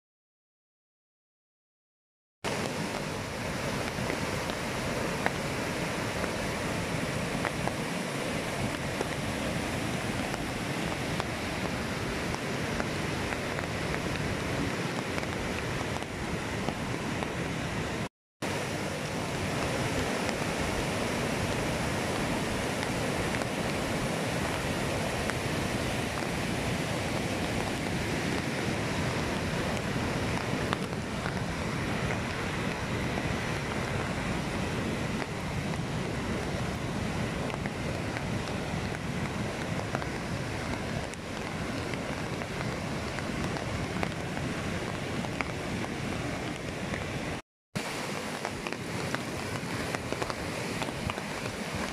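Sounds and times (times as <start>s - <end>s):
river water rushing over rapids: 2.5s - 51.9s.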